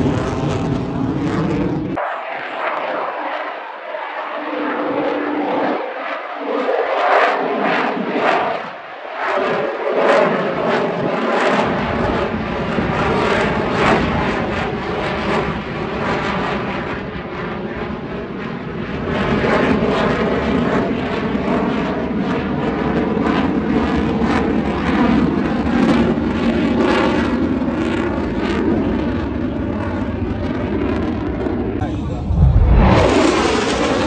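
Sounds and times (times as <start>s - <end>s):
jet engine rumble with crackle: 0.0s - 34.0s.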